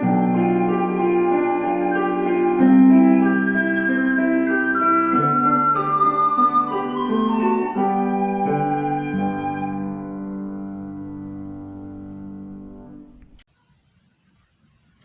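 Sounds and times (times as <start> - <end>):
classical instrumental music: 0.0 - 13.4.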